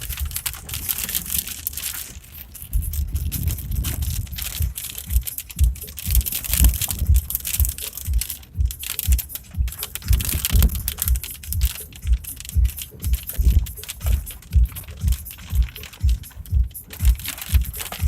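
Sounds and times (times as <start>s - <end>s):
crackling hiss: 0.0s - 18.0s
low thumps: 0.0s - 18.0s.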